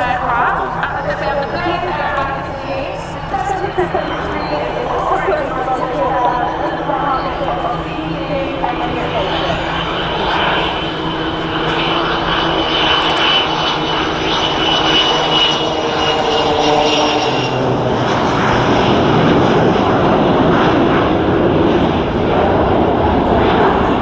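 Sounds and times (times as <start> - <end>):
rough engine noise: 0.0 - 20.3
plane engines flying past: 0.0 - 24.0.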